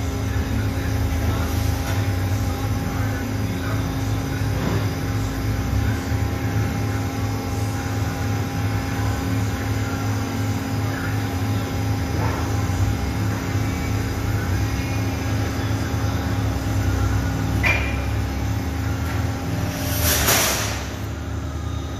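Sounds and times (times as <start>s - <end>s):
machinery drone: 0.0s - 21.9s.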